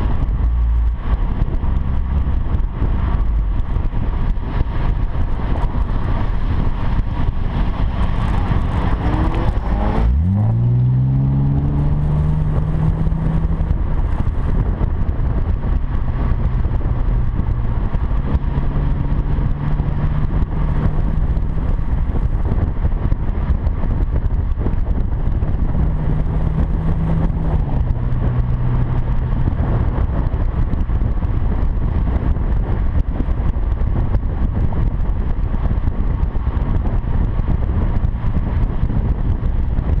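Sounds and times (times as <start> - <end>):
car exhaust engine drone: 0.0 - 40.0
gear change: 0.0 - 40.0.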